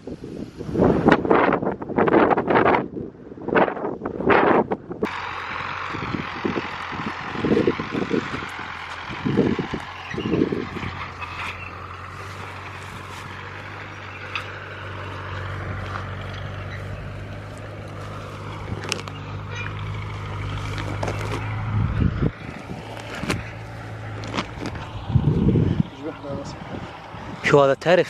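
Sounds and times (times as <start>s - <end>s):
engine humming: 4.0s - 28.0s.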